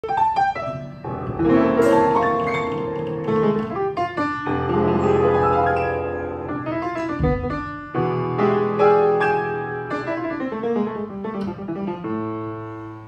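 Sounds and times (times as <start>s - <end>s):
upright piano playing: 0.0s - 13.0s.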